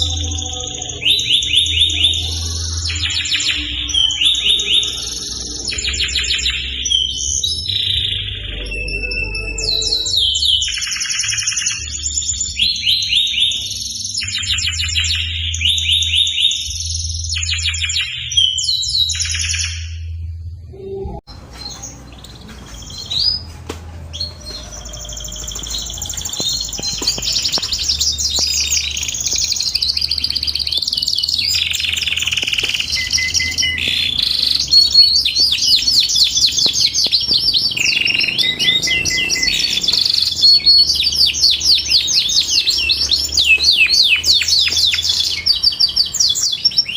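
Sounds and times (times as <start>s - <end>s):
canary singing trills: 0.0s - 20.1s, 24.1s - 46.9s.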